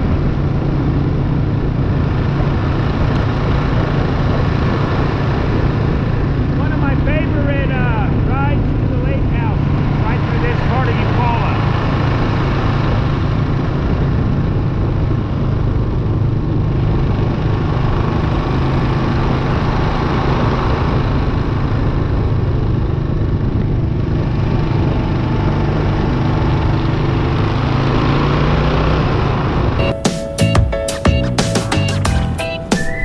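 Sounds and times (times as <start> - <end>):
motorcycle engine cruising: 0.0 - 33.0
wind and road rush: 0.0 - 33.0.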